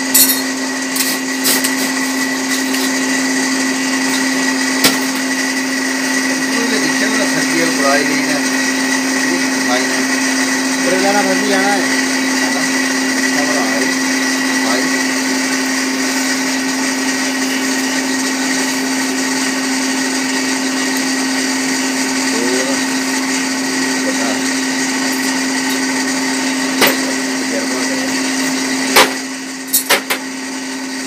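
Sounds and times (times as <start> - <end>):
electric blower humming: 0.0 - 31.0.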